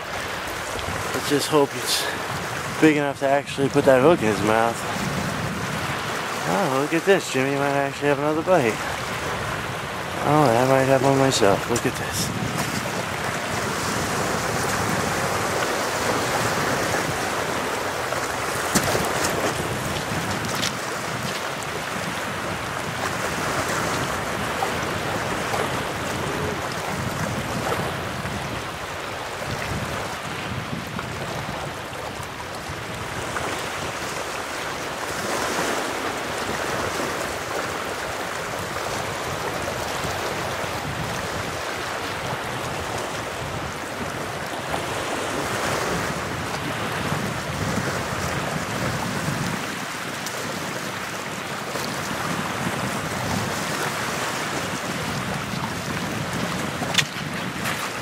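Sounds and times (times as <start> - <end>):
small waves washing ashore: 0.0 - 58.0
wind buffeting microphone: 0.0 - 58.0.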